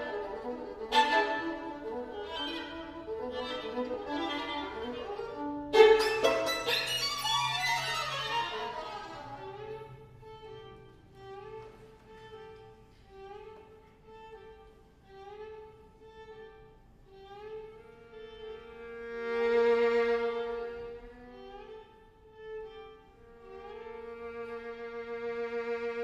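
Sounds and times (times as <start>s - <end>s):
violin duo playing: 0.0s - 26.0s.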